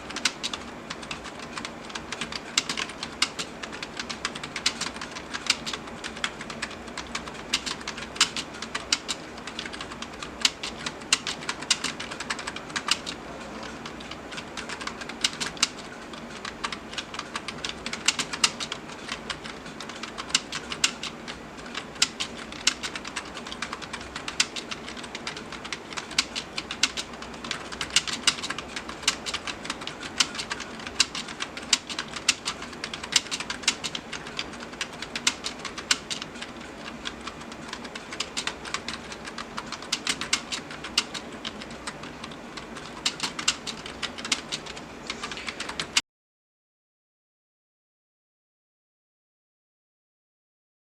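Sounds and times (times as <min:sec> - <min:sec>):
computer keyboard typing: 0:00.0 - 0:46.0.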